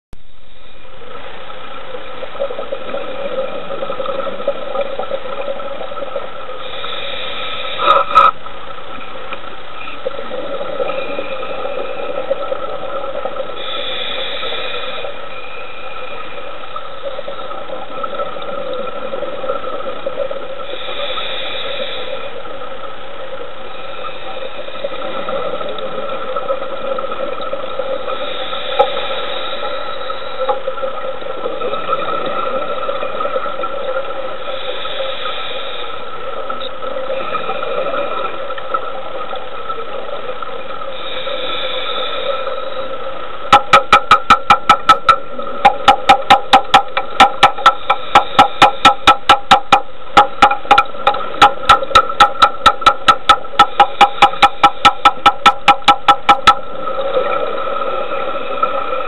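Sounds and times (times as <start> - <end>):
underwater mechanical hum: 0.1 - 59.0
exhaled bubbles hissing: 0.4 - 59.0.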